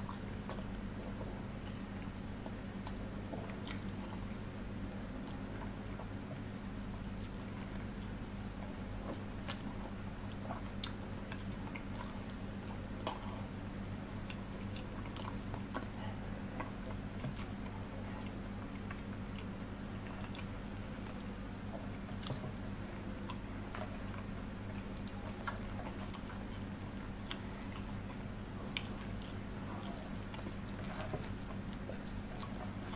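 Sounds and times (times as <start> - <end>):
chewing and wet mouth smacks: 0.0 - 4.4, 5.3 - 13.5, 14.1 - 32.9.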